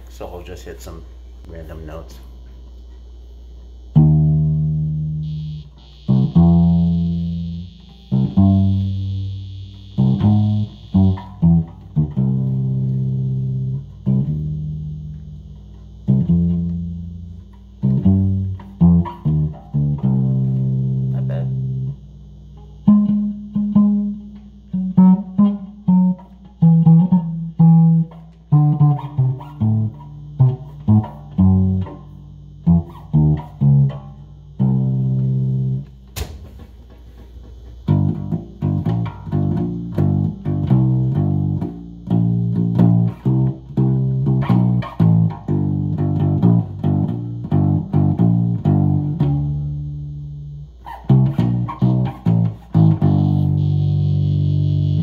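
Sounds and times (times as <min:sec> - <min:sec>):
box bass plucked notes: 0:00.0 - 0:55.0.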